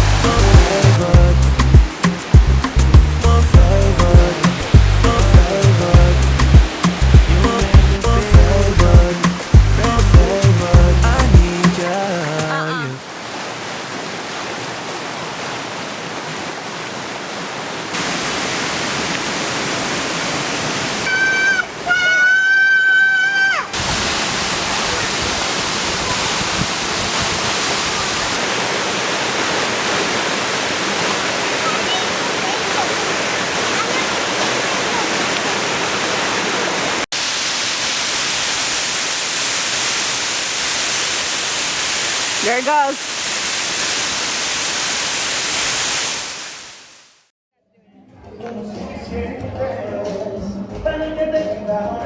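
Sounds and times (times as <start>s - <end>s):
waterfall rushing: 0.0s - 47.3s.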